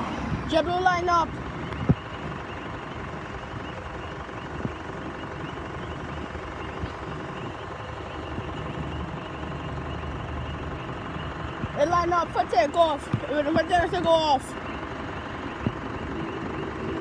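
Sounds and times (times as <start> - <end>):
jet engine idling: 0.0 - 17.0.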